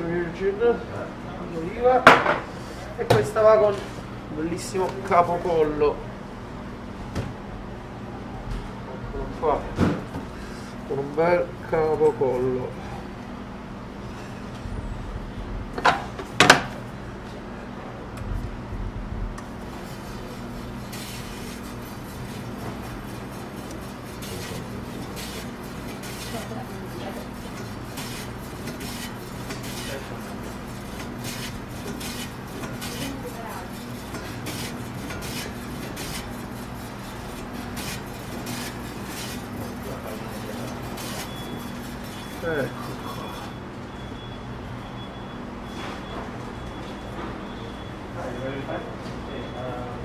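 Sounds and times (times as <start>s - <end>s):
meat slicer humming: 0.0s - 48.8s.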